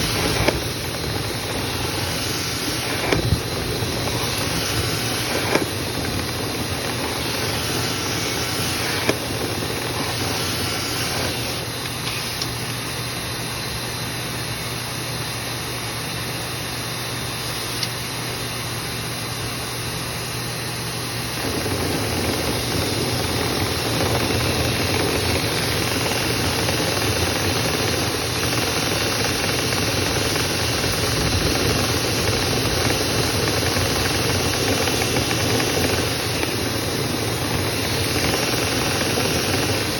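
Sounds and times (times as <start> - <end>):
machine hum with hiss: 0.0 - 39.9.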